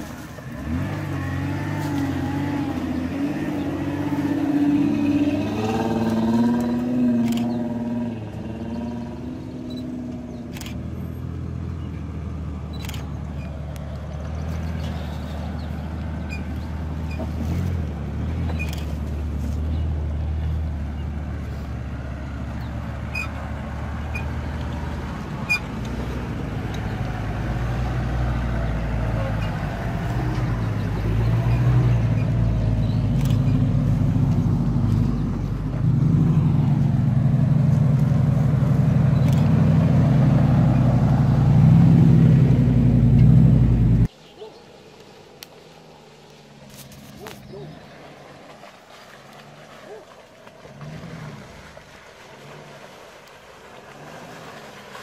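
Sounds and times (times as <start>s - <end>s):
off-road vehicle engine running: 0.0s - 44.1s, 46.3s - 55.0s.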